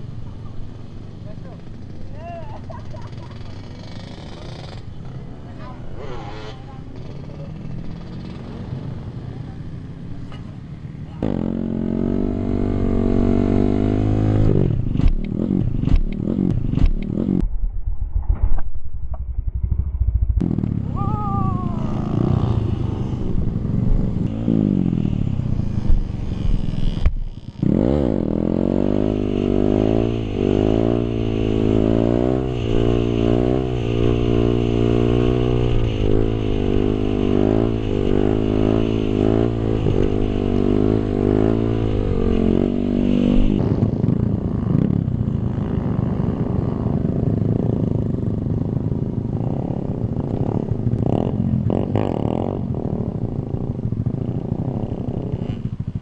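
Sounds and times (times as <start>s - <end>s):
motorcycle engine running hard: 0.0s - 17.4s, 19.6s - 56.0s.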